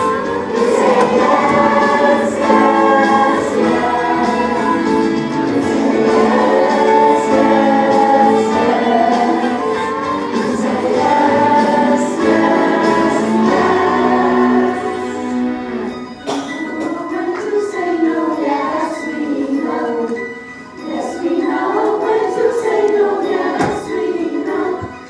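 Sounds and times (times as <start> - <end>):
choir singing with music: 0.0 - 25.0.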